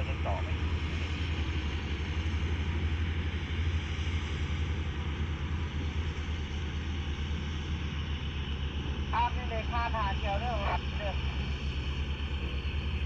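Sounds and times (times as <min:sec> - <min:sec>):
large engine rumbling: 0:00.0 - 0:13.0.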